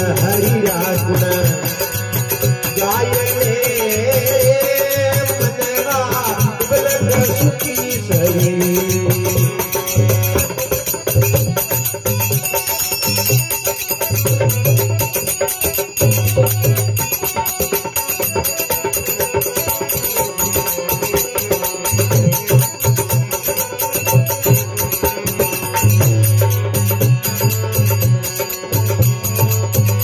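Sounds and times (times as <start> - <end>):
dholak drum beating: 0.0 - 30.0
hand cymbals jingling: 0.0 - 30.0
harmonium chords: 0.0 - 30.0.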